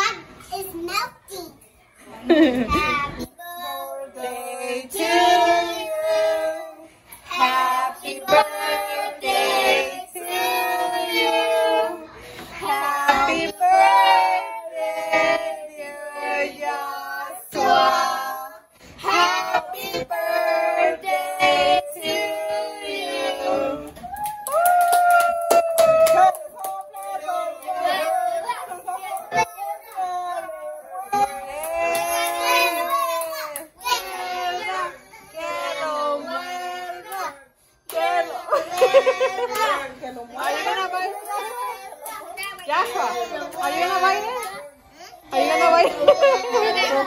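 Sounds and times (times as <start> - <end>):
people singing a birthday song: 2.0 - 24.2, 25.7 - 47.0.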